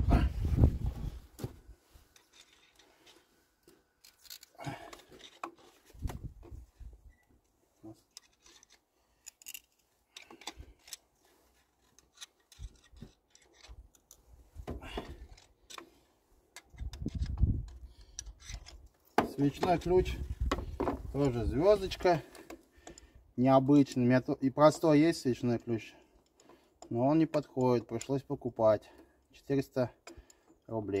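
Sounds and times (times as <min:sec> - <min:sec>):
hand tools clicking and scraping: 0:02.0 - 0:06.0, 0:08.0 - 0:24.0, 0:24.7 - 0:30.7.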